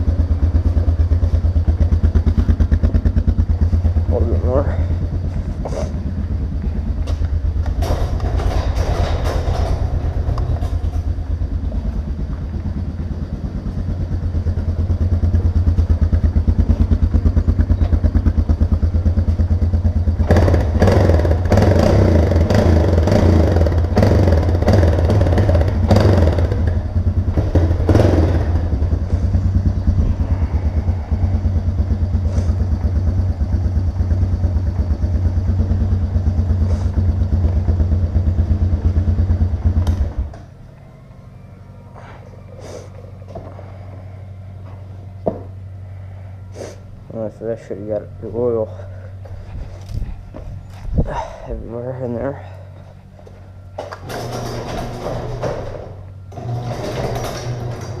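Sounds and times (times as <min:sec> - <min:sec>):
engine clatter: 0:00.0 - 0:46.5, 0:47.2 - 0:58.0
atv engine revving: 0:00.0 - 0:50.0, 0:52.4 - 0:58.0.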